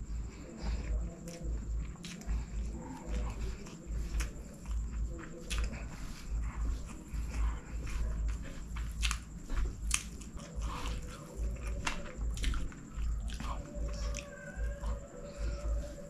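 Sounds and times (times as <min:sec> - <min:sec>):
close chewing with wet mouth sounds: 0:00.0 - 0:16.0
biting and crunching clicks: 0:00.2 - 0:16.0.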